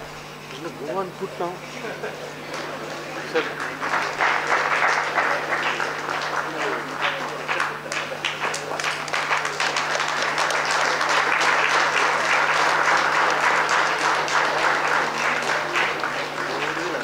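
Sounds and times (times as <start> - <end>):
audience applauding: 2.4 - 17.0.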